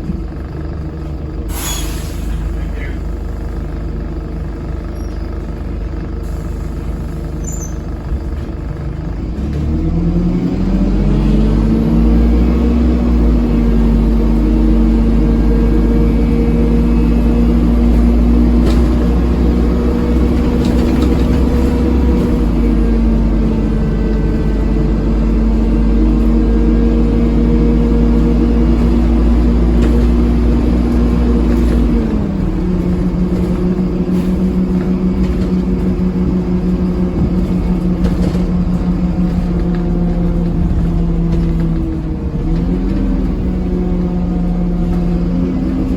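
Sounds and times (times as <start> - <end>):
bus engine revving: 0.0 - 45.9.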